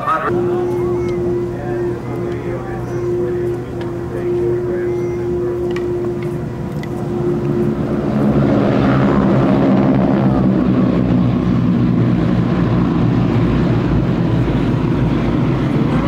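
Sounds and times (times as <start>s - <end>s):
propeller planes droning overhead: 0.0s - 16.0s.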